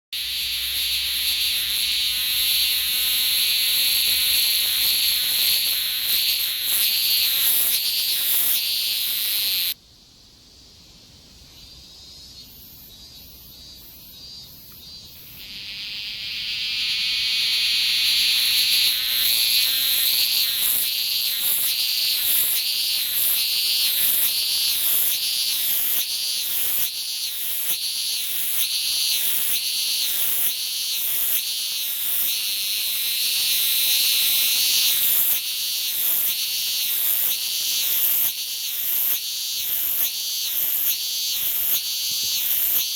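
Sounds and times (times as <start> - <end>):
cicada buzzing: 0.2 - 9.8, 13.6 - 42.9.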